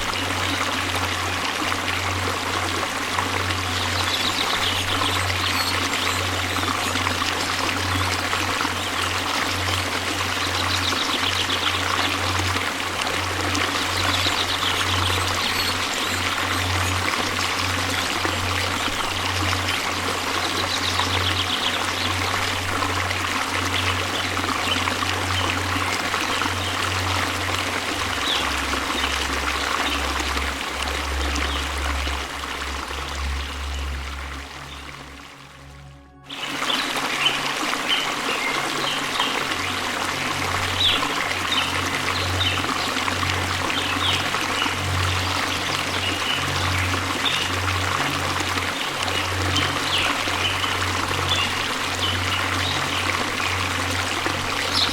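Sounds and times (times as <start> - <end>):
waterfall rushing and splashing: 0.0 - 35.7, 36.3 - 54.9
low sustained hum: 0.0 - 54.9.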